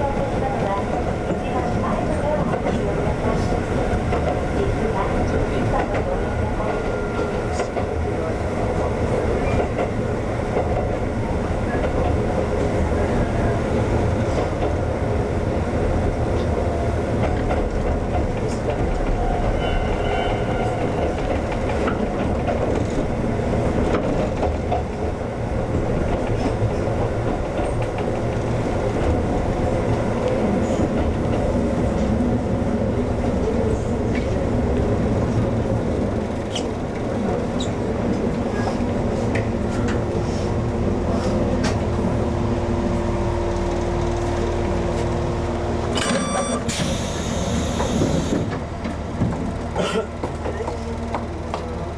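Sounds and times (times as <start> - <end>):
train rumble and rail noise: 0.0 - 51.9.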